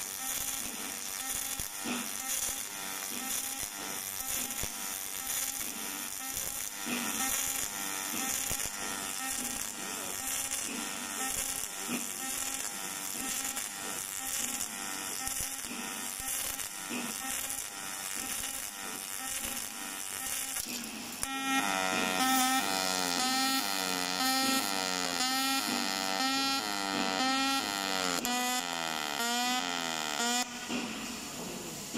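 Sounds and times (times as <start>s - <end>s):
welding arc buzzing: 0.0s - 31.9s.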